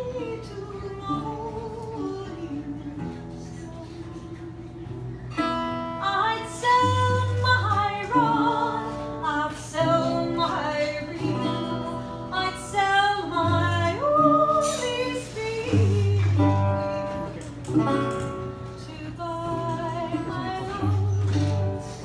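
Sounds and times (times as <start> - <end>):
person singing: 0.0 - 4.8, 6.1 - 17.4, 18.8 - 22.0
acoustic guitar strumming: 0.0 - 22.0.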